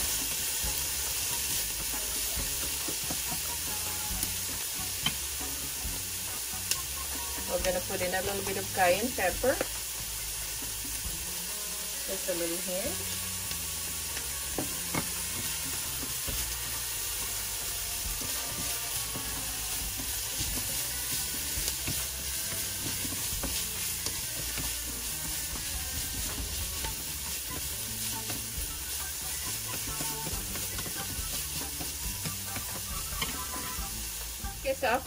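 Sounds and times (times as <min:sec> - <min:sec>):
chicken sizzling in a pan: 0:00.0 - 0:35.0.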